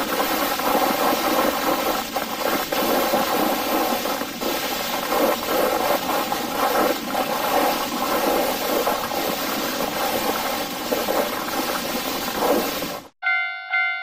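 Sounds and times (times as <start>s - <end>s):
steady rushing noise: 0.0s - 13.2s.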